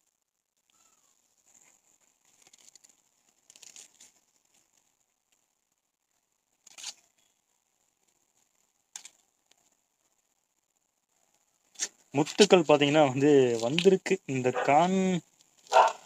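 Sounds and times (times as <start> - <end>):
corn husk rustling and ripping: 0.7 - 10.2, 11.6 - 16.0.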